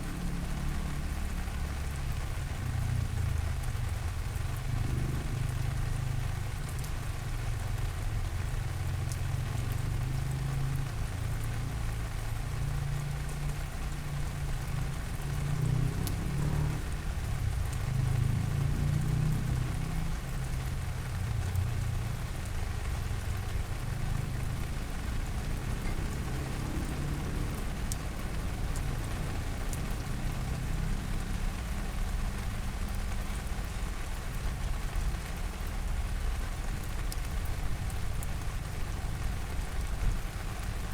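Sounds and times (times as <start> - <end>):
steady rain hiss: 0.0 - 40.9
raindrop ticks: 0.1 - 40.9.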